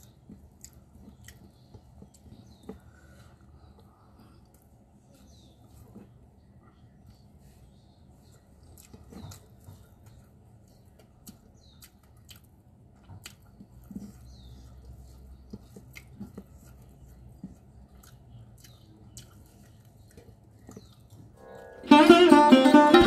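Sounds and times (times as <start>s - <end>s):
faint chewing: 0.0s - 21.4s.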